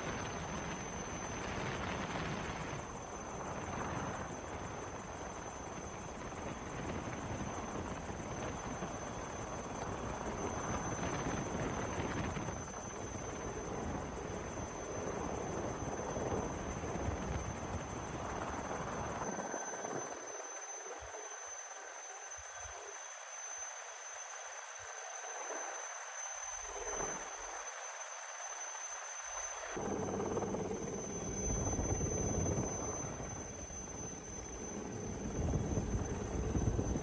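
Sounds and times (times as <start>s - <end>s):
helicopter rotor and engine noise: 0.0s - 37.0s.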